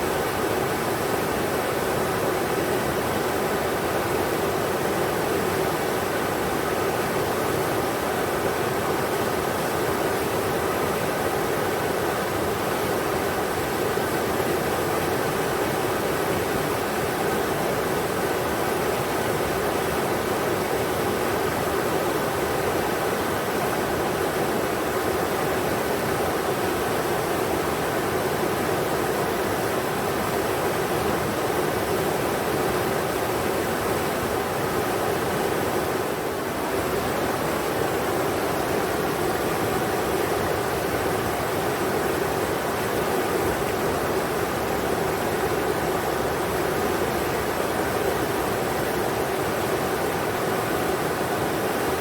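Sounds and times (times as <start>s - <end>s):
river water rushing over rocks: 0.0s - 52.0s.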